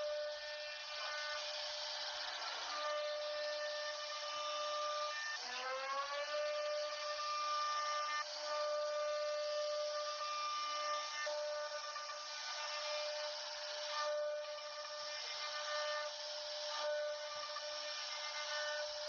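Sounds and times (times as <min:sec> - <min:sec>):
hiss of wood cutting: 0:00.0 - 0:19.0
router spindle whining: 0:00.0 - 0:19.0.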